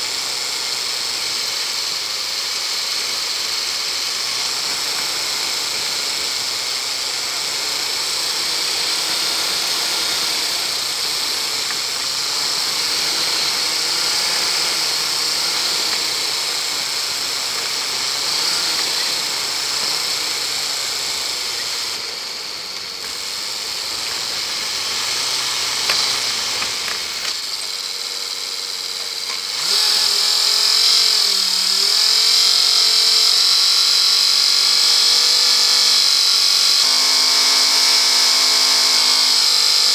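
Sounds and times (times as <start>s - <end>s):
car engine driving: 1.2s - 34.6s.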